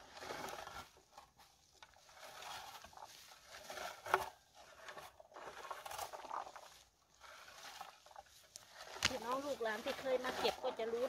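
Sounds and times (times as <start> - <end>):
rustling of shrubs: 0.0 - 11.0.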